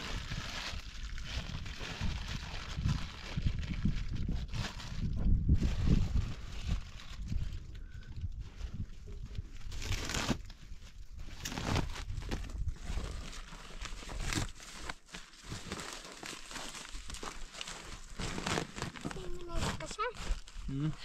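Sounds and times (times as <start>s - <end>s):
material rustling and crinkling: 0.0s - 21.0s.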